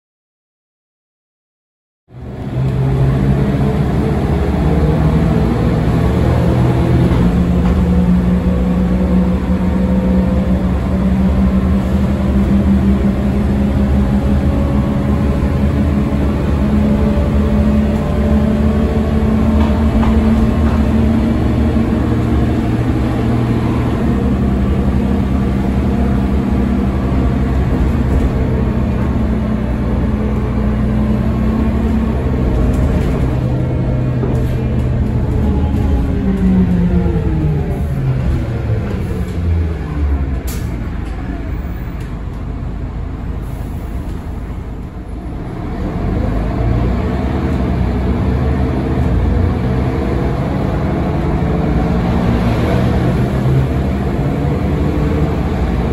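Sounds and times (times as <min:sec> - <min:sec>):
bus engine running: 0:02.1 - 0:55.9.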